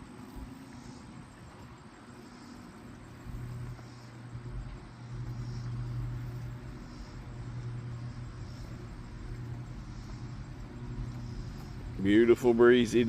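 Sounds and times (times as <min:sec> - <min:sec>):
distant engine drone: 0:00.0 - 0:13.0
outdoor noise haze: 0:00.0 - 0:13.0.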